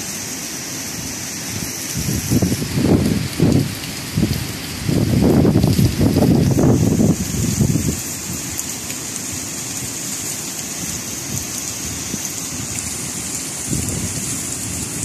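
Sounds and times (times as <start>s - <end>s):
heavy rain hiss: 0.0s - 15.0s
wind rumbling on microphone: 1.0s - 10.0s, 10.7s - 15.0s.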